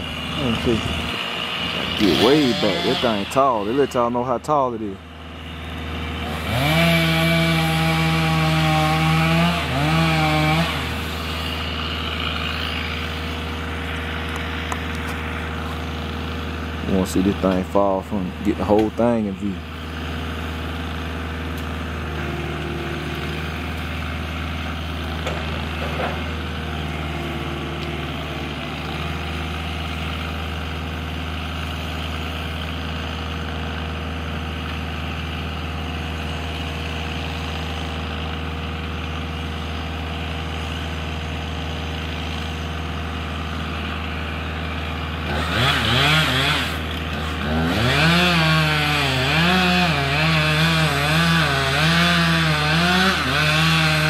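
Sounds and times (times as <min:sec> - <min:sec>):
chainsaw cutting wood: 0:00.0 - 0:54.0
chainsaw idling: 0:00.0 - 0:54.0.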